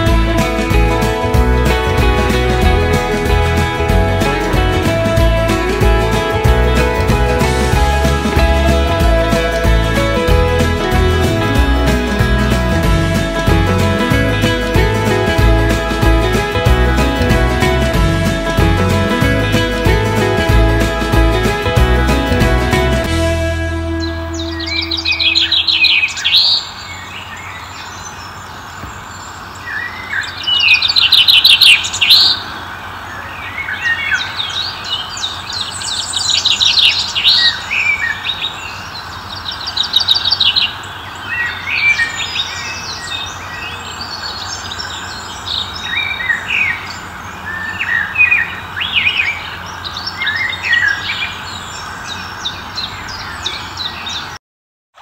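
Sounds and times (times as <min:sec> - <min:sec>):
birds chirping: 0:00.0 - 0:54.4.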